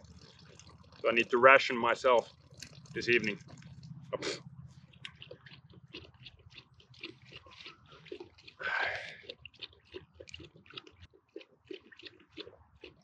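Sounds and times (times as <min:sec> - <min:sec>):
dog lapping water: 0:00.0 - 0:01.6, 0:02.2 - 0:13.0.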